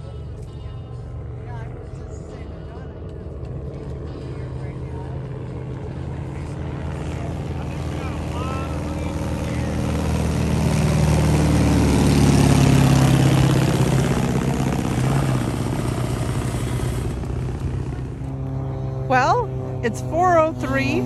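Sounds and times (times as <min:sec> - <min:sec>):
light plane flying overhead: 0:00.0 - 0:21.0.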